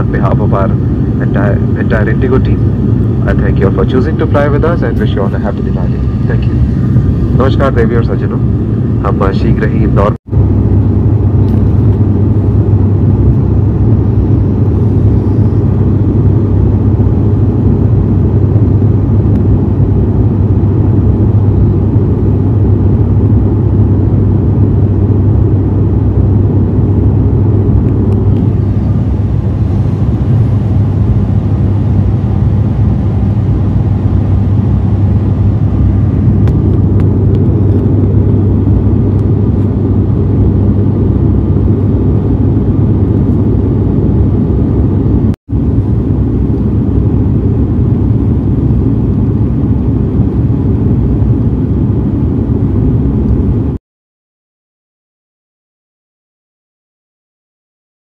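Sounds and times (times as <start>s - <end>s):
turboprop engines droning in cabin: 0.0s - 53.8s.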